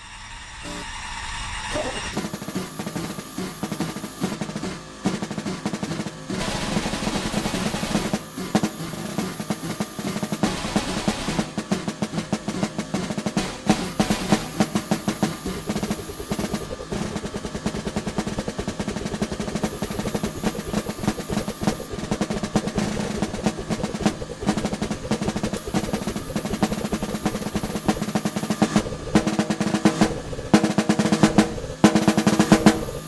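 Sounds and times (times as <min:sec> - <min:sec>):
rapid drum roll: 0:01.8 - 0:33.0.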